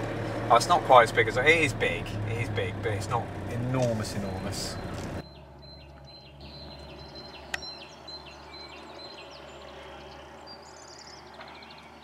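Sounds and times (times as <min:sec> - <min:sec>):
birds chirping and trilling: 0:00.4 - 0:12.0.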